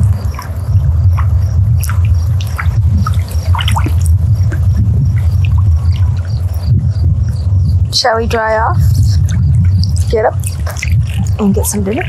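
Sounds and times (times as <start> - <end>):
water splashes and drips: 0.0 - 6.8, 9.1 - 12.0
loud low rumble: 0.0 - 12.0.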